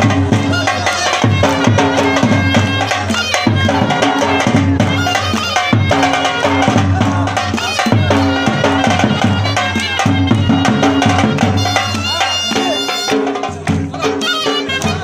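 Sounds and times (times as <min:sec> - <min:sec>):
folk song with drums: 0:00.0 - 0:15.0.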